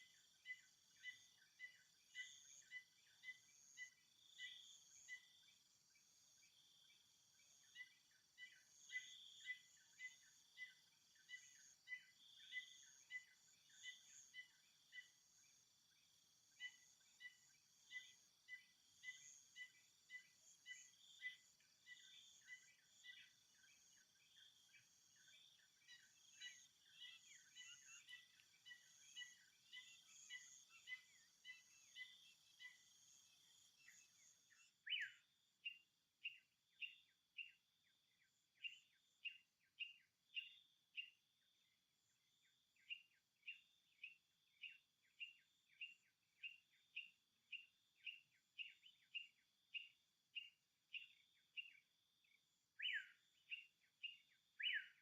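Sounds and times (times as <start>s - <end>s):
insects droning: 0.0s - 54.9s
insect chirps: 0.0s - 55.0s.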